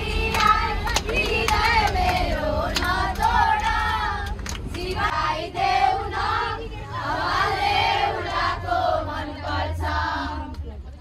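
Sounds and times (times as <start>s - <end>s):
children and women singing: 0.0s - 10.6s.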